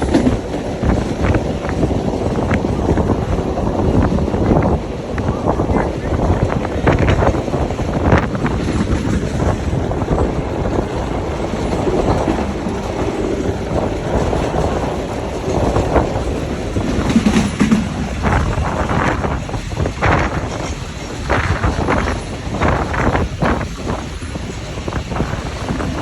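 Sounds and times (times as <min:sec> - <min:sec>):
knocks from train wheels: 0:00.0 - 0:03.2, 0:06.2 - 0:26.0
train rumble: 0:00.0 - 0:26.0
wind buffeting microphone: 0:00.0 - 0:26.0.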